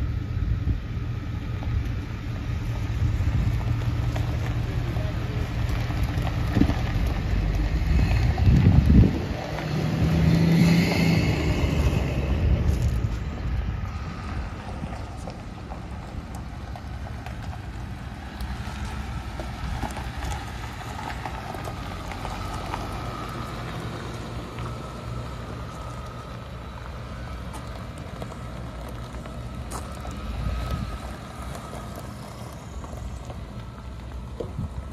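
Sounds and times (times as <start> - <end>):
truck engine low rumble: 0.0 - 34.9
tyres crunching over gravel: 1.0 - 34.9.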